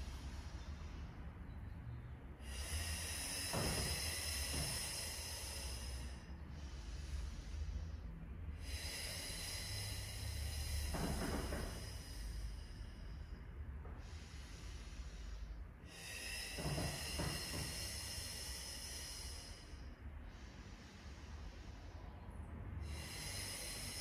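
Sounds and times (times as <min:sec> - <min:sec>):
woman breathing: 0:00.0 - 0:24.0.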